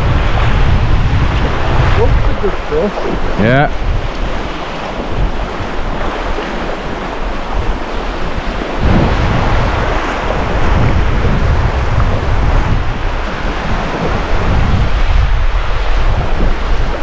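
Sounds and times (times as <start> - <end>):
small waves breaking on sand: 0.0 - 17.0
wind buffeting microphone: 0.0 - 17.0.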